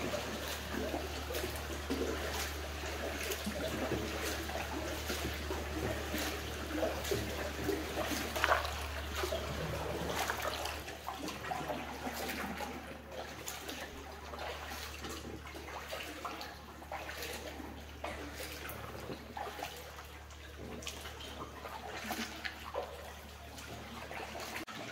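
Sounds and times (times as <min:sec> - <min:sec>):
paddles splashing in water: 0:00.0 - 0:24.9
water trickling: 0:00.0 - 0:24.9.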